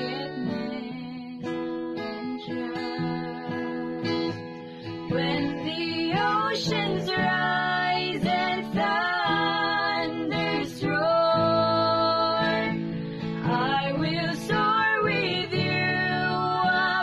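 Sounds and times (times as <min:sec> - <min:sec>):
acoustic guitar: 0:00.0 - 0:17.0
woman singing worship song: 0:00.0 - 0:17.0.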